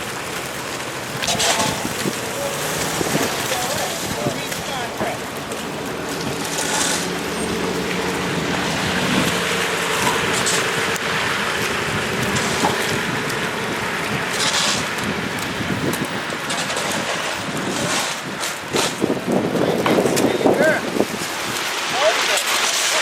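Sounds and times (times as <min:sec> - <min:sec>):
vehicle engine humming: 0:00.0 - 0:21.8
traffic hiss: 0:00.0 - 0:23.0
wind: 0:00.0 - 0:23.0.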